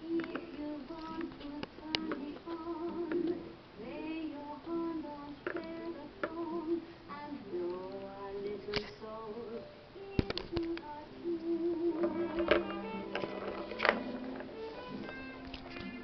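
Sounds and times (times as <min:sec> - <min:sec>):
high singing voice: 0:00.0 - 0:16.0.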